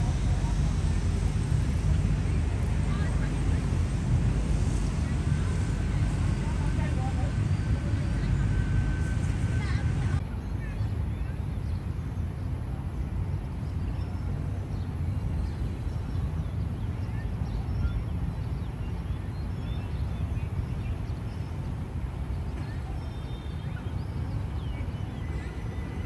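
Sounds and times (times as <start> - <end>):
distant city traffic rumble: 0.0 - 26.0.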